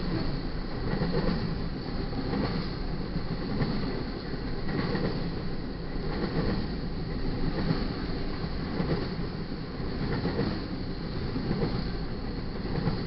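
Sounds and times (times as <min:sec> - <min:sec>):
steel wheels rumbling on rails: 0:00.0 - 0:13.0.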